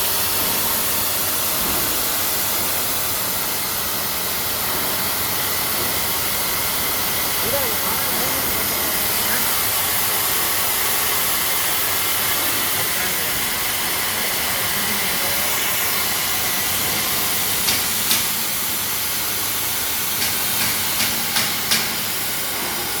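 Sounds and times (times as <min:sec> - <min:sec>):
cnc machine hissing: 0:00.1 - 0:23.0.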